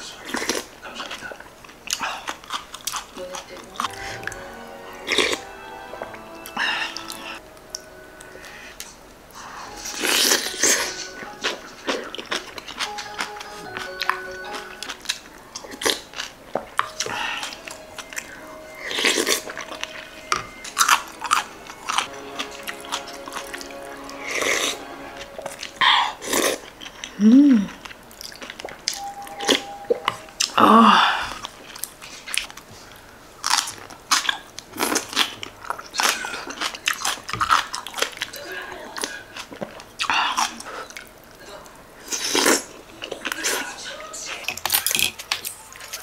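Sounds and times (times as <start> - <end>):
chewing with smacks and clicks: 0.0 - 4.5, 7.0 - 30.6, 31.2 - 46.0
soft background music: 3.2 - 46.0.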